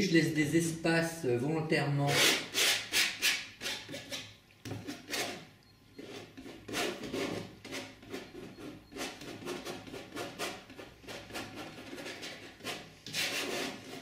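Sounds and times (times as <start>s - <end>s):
painting knife rasping on canvas: 2.1s - 14.0s.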